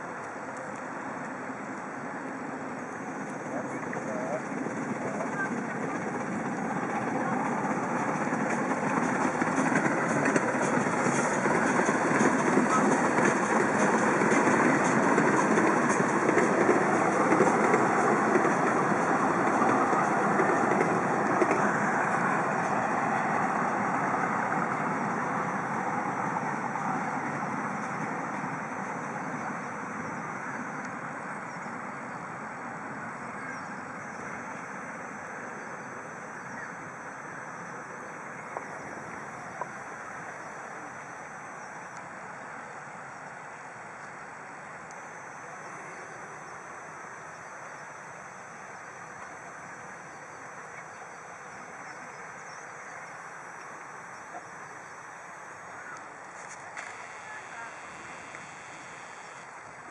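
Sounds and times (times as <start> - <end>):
miniature steam locomotive running: 0.0 - 59.9.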